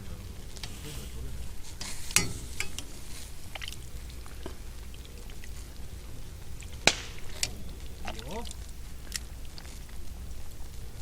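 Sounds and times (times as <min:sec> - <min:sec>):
firewood crackling and popping: 0:00.0 - 0:11.0
low steady rumble: 0:00.0 - 0:11.0.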